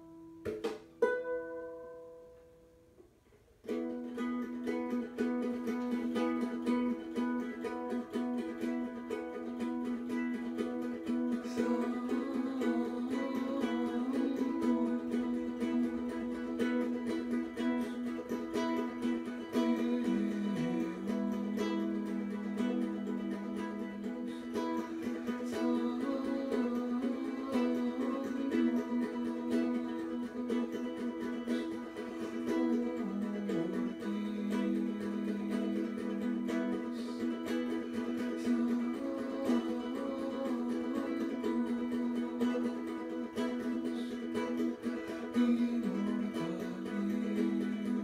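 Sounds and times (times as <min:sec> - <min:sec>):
plucked string instrument: 0:00.0 - 0:48.0.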